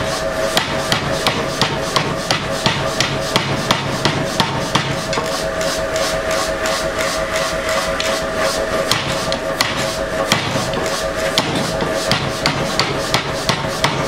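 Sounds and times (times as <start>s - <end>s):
machine hum: 0.0s - 14.0s
power hammer striking hot metal: 0.0s - 14.0s.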